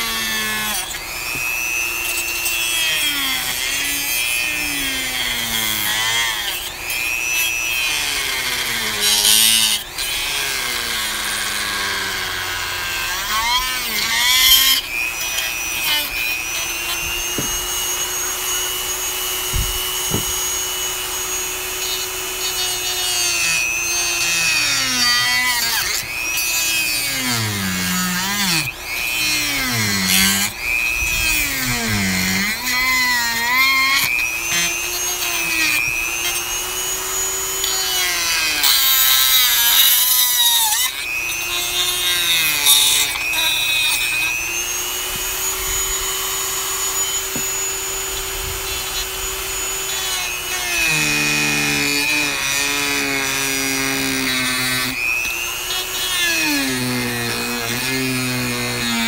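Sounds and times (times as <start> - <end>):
rotary tool whining while cutting: 0.0 - 59.0.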